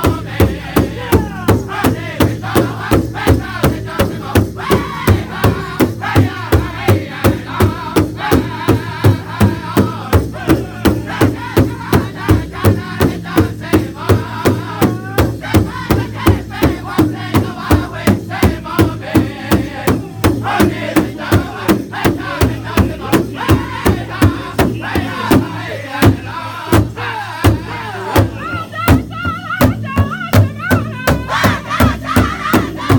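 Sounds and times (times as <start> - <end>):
hand drum beating steadily: 0.0 - 26.2, 26.8 - 32.9
group singing together: 0.0 - 29.1, 30.8 - 32.9.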